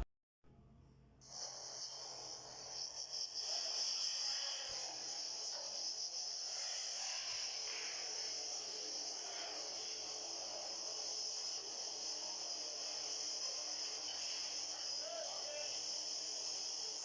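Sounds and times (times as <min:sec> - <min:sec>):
steady hiss: 0:01.2 - 0:17.0
cutting machine high-pitched whine: 0:01.3 - 0:17.0.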